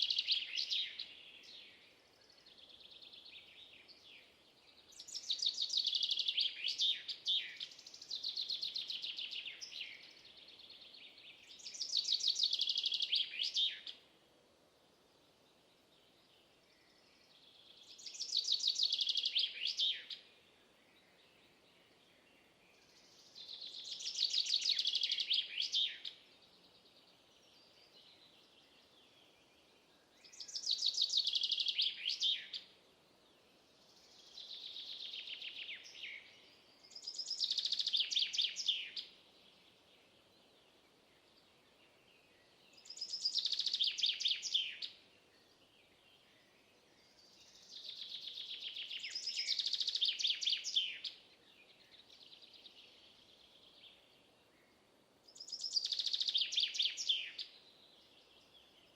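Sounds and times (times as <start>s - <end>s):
faint outdoor hiss: 0.0s - 58.9s.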